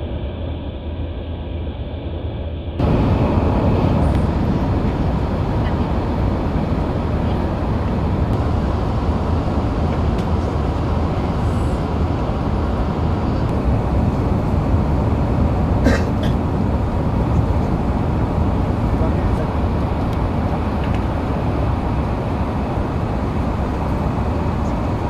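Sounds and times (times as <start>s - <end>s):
jet engines roaring in cabin: 0.0s - 25.0s.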